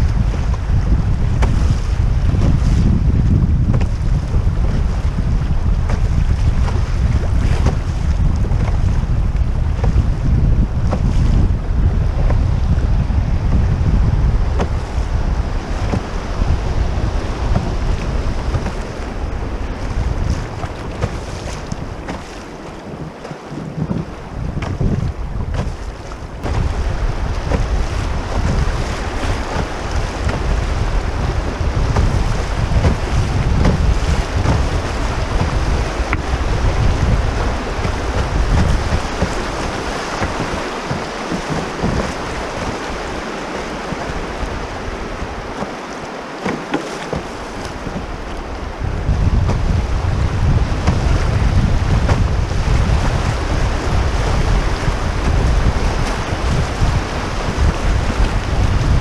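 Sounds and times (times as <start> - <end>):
river water rushing and splashing: 0.0 - 59.0
wind buffeting microphone: 0.0 - 59.0.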